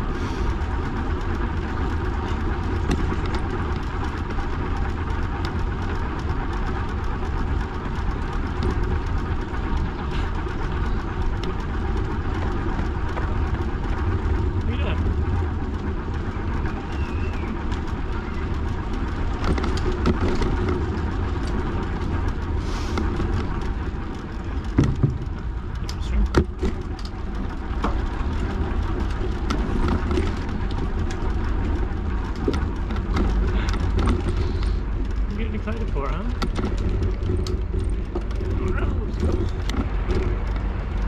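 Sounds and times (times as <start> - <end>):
bicycle rolling noise: 0.0 - 41.0.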